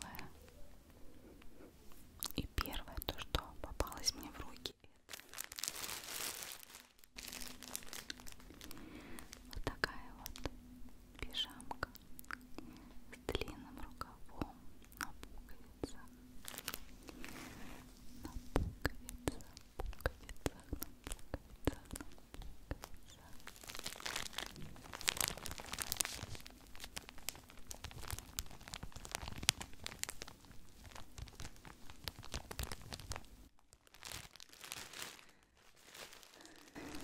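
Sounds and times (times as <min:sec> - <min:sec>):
plastic packaging crinkling: 0:02.2 - 0:10.6, 0:14.8 - 0:37.0.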